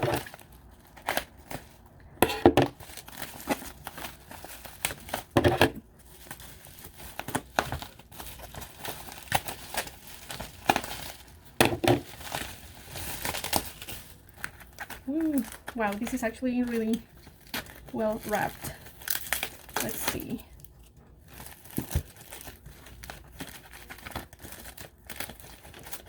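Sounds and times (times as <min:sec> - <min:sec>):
packaging crinkling and tearing: 0:00.0 - 0:26.0.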